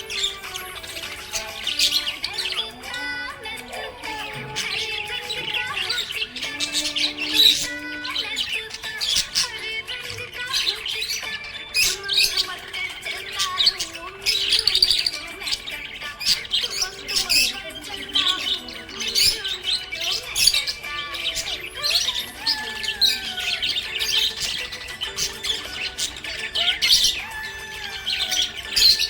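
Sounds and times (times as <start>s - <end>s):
budgerigars chirping and squawking: 0.0s - 29.0s.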